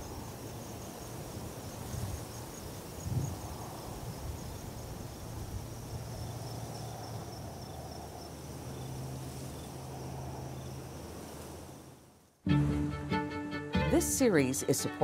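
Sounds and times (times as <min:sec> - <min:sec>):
breeze through dry grass: 0:00.0 - 0:12.3
insects chirping: 0:00.0 - 0:12.4.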